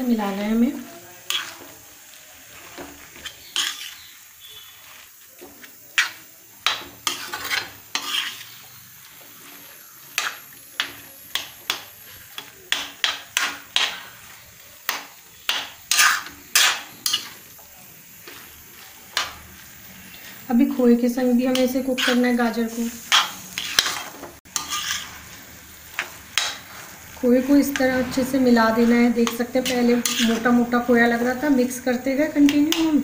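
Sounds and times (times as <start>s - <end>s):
faint sizzle: 0.0s - 33.0s
spatula scraping metal pan: 1.2s - 1.8s, 2.6s - 17.6s, 21.4s - 33.0s.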